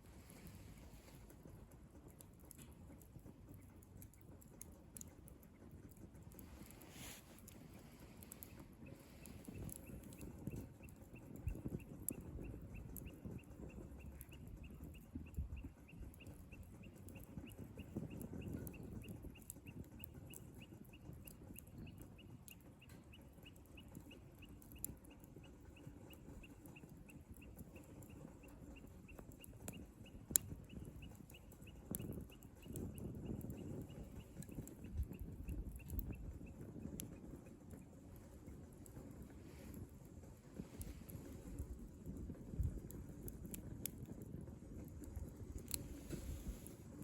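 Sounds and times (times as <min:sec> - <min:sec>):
wood fire crackling and popping: 0:00.0 - 0:47.0
faint high-pitched ticks: 0:00.3 - 0:38.3.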